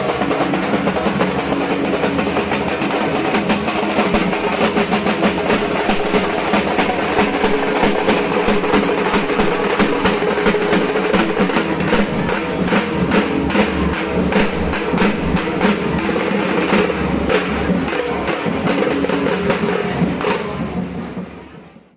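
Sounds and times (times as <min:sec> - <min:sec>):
barrel drum beaten with sticks: 0:00.0 - 0:21.4.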